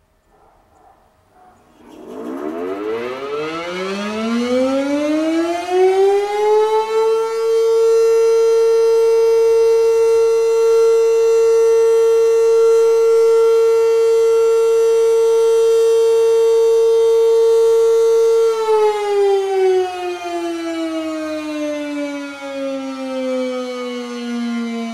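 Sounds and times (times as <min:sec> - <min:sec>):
warning siren rising tone: 0:01.4 - 0:24.9.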